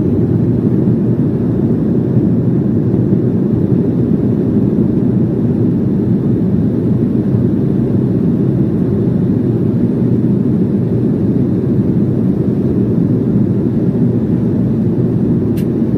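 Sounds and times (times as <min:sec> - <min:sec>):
airliner cabin engine roar: 0:00.0 - 0:15.9.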